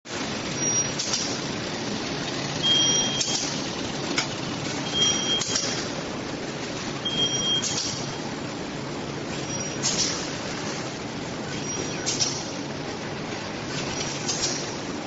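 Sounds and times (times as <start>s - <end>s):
machine mechanical clatter: 0.1s - 6.0s, 7.6s - 8.2s, 9.3s - 15.0s.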